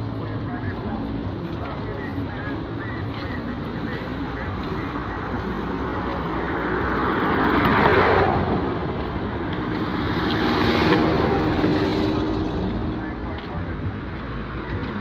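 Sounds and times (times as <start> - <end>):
engine hum: 0.0 - 15.0
vehicles passing by: 0.0 - 15.0.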